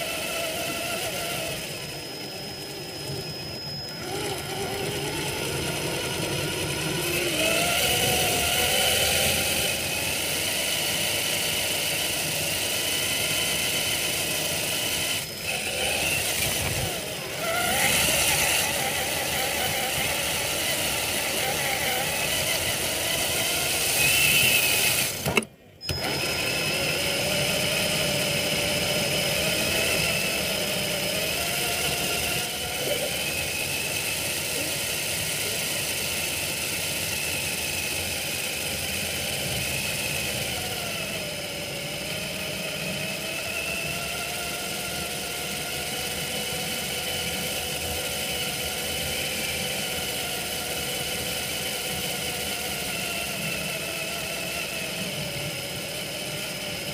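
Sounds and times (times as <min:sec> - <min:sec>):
electric motor whining: 0:00.0 - 0:56.9.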